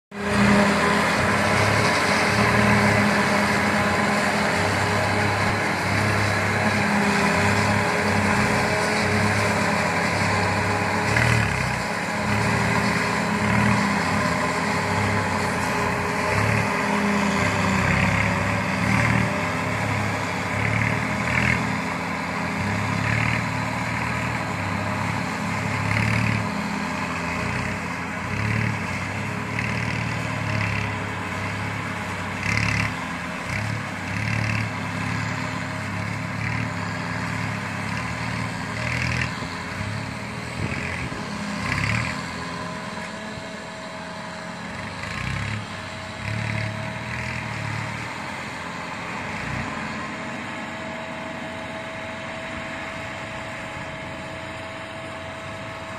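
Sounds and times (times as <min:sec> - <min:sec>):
tractor engine under load: 0:00.1 - 0:55.9
forage harvester chopping crop: 0:00.2 - 0:50.5.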